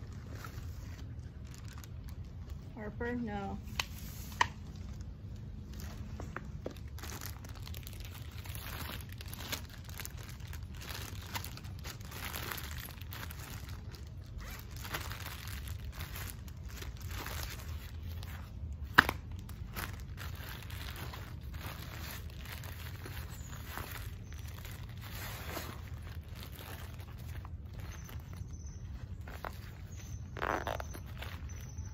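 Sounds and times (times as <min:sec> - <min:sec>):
plastic bags crinkling: 0:00.0 - 0:31.9.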